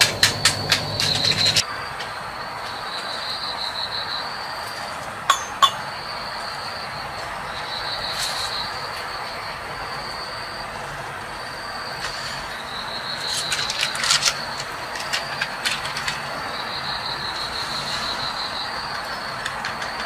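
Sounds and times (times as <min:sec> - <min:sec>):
constant hiss: 0:00.0 - 0:20.0
high-pitched insect trill: 0:00.0 - 0:20.0.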